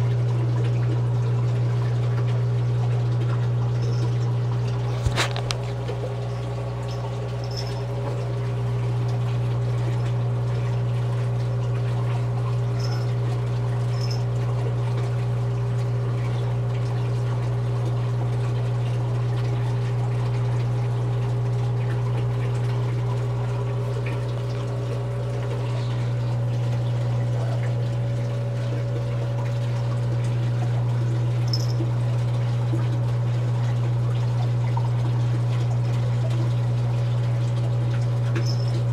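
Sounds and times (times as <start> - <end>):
aquarium pump hum: 0.0 - 38.9
water trickling and pouring: 0.0 - 38.9.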